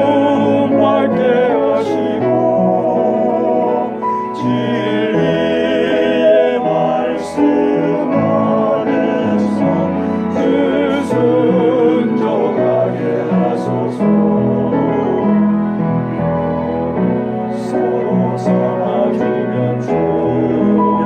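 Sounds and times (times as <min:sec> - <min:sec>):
piano accompaniment: 0:00.0 - 0:21.0
vocal ensemble singing in harmony: 0:00.0 - 0:21.0.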